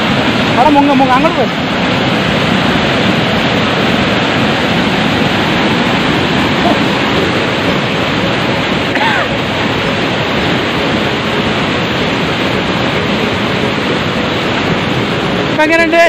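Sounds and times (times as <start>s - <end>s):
water roaring over rocks: 0.0s - 16.0s.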